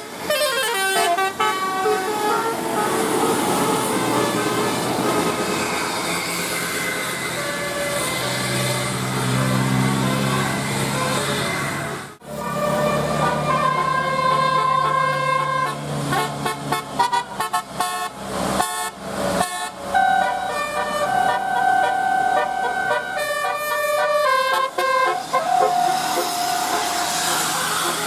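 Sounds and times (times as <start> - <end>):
musical air horn playing a tune: 0.3 - 5.6, 10.1 - 28.0.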